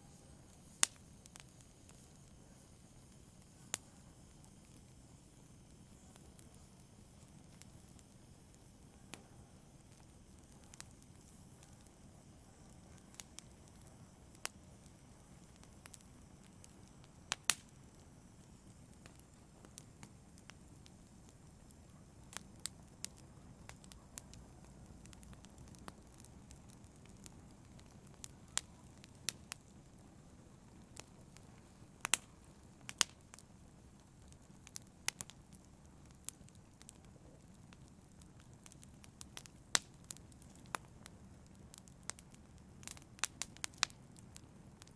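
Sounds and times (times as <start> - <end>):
low rush of burning: 0.0 - 44.9
wood fire crackling: 0.0 - 44.9.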